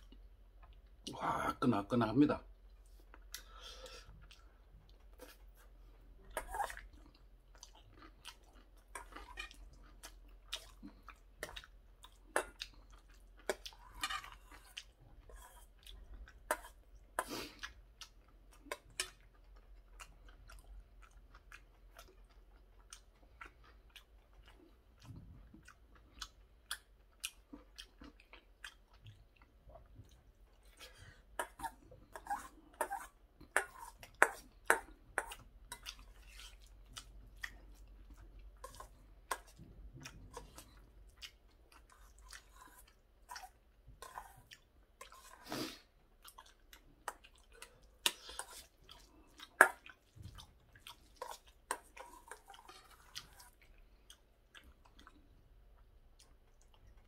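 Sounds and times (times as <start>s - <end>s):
person chewing with wet smacking: 0.0s - 1.1s, 2.5s - 57.0s.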